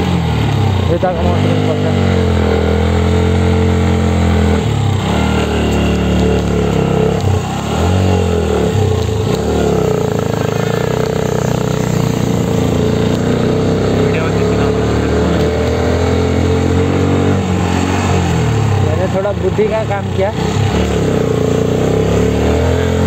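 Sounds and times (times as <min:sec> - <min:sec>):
motorcycle engine revving uphill: 0:00.0 - 0:23.0.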